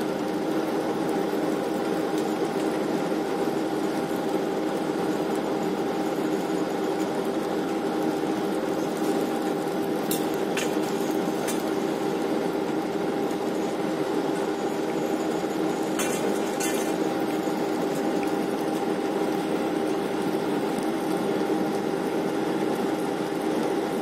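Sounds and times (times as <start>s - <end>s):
deck machinery drone: 0.0s - 24.0s.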